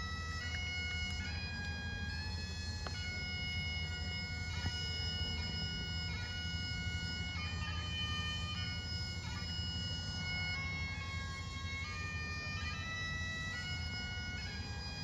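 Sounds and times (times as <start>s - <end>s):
bagpipes playing slow tune: 0.0s - 15.0s.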